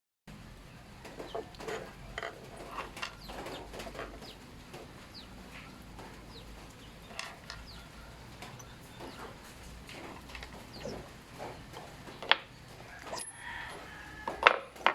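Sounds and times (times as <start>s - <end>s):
birds chirping and clucking: 0.3s - 14.9s
steady low hum: 0.3s - 14.9s.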